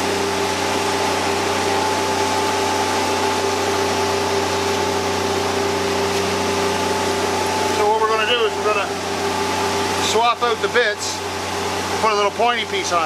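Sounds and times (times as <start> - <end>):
low machine hum: 0.0 - 13.0
steady whining tones: 0.0 - 13.0.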